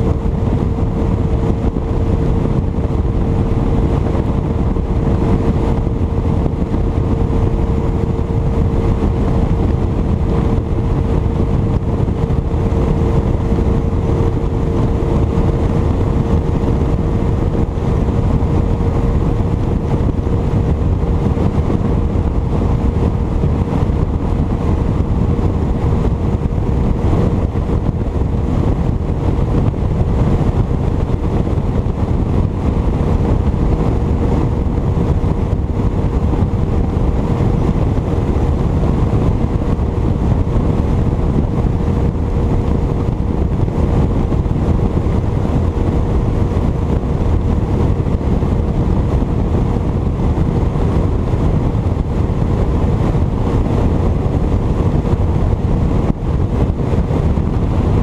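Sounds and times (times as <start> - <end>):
outboard motor hum and whine: 0.0 - 58.0
wind rumble on microphone: 0.0 - 58.0.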